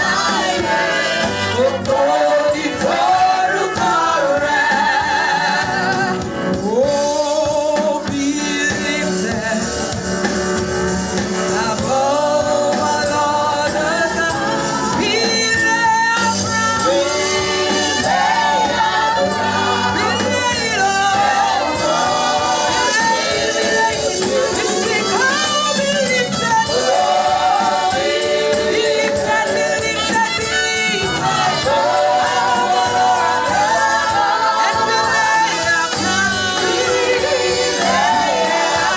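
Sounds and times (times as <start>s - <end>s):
instrumental backing: 0.0s - 38.9s
voices singing gospel: 0.0s - 38.9s.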